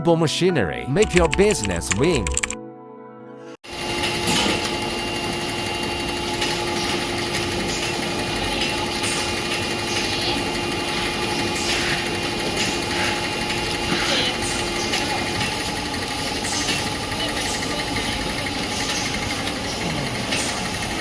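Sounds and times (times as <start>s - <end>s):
machine humming: 3.7s - 21.0s.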